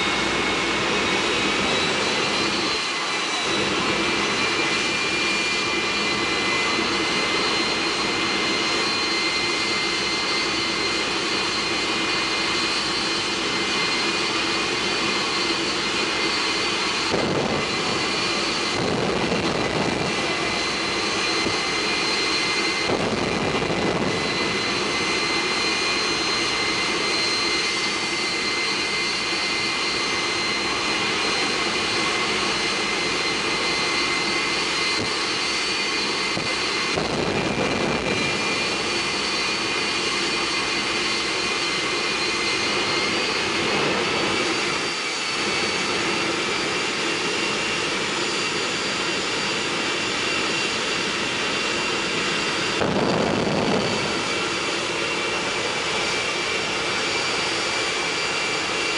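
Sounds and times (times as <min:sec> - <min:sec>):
turbine engine whining: 0:00.0 - 0:58.9.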